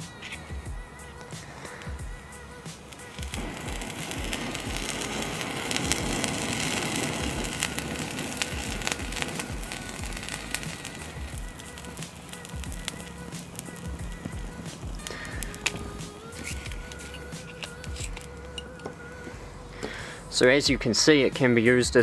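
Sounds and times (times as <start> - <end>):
background music: 0.0 - 22.0
hissing crackling flame: 0.0 - 22.0.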